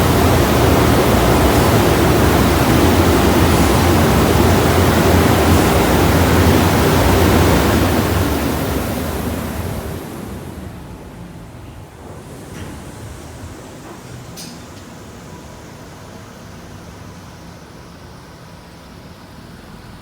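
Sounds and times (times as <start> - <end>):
car wash air blowers: 0.0 - 11.2, 12.0 - 20.0.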